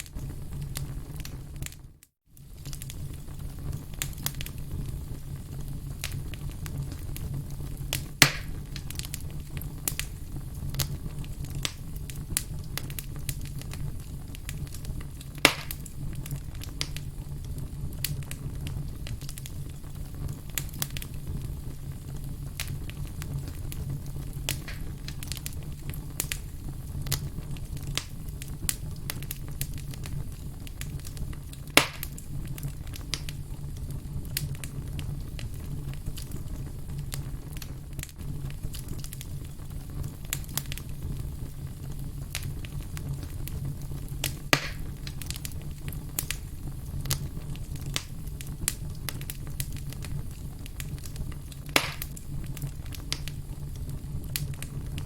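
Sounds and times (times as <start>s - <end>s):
campfire crackling: 0.0s - 55.0s
loud fire pops: 0.0s - 55.0s.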